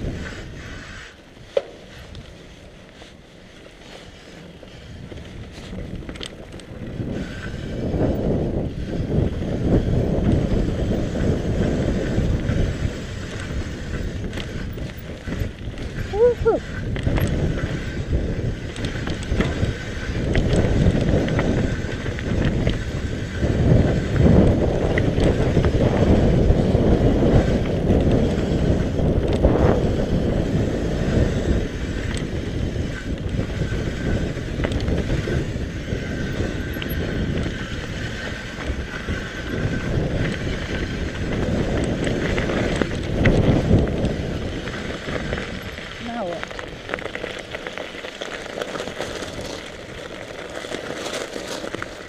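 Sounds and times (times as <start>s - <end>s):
bike rattling on bumpy trail: 0.0s - 52.0s
wind buffeting the microphone: 0.0s - 52.0s.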